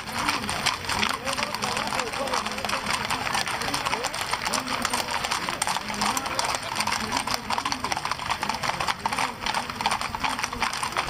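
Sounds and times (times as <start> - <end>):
horse hooves clip-clopping: 0.0 - 11.0.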